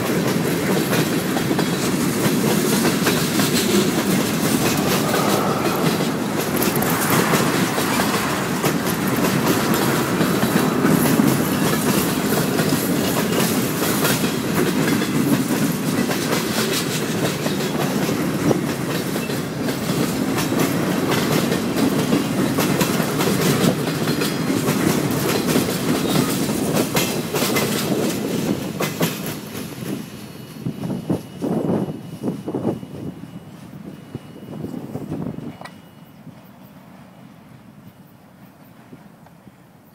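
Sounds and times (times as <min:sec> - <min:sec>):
train wheels clicking on rails: 0:00.0 - 0:39.9.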